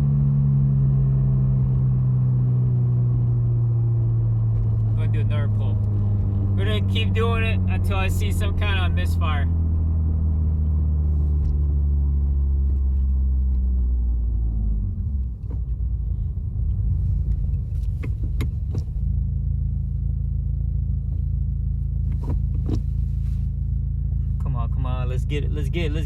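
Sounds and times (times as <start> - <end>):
car engine: 0.0 - 26.0
road rumble: 0.0 - 26.0.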